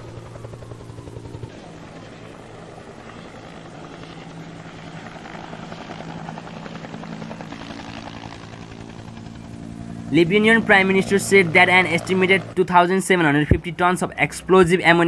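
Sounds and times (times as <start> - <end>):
low mechanical drone with flutter: 0.0 - 15.0.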